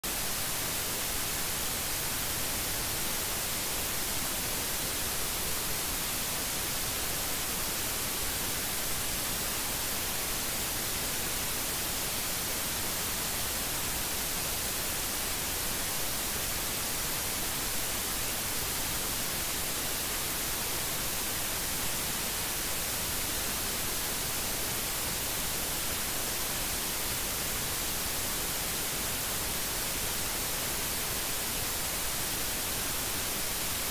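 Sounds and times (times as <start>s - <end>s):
static hiss: 0.0s - 33.9s.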